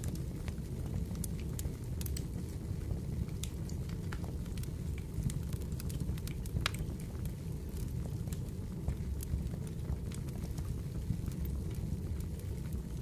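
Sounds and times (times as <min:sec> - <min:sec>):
fireplace crackling: 0:00.0 - 0:13.0.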